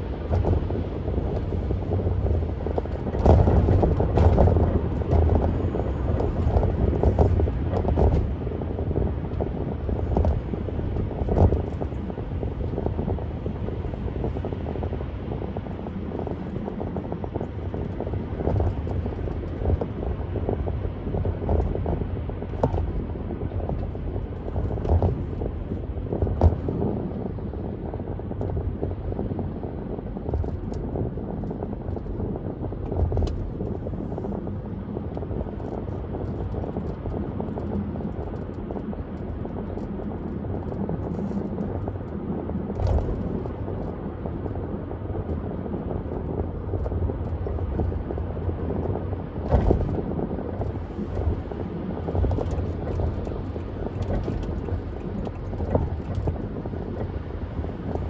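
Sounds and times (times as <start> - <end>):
road and wind noise: 0.0 - 58.0.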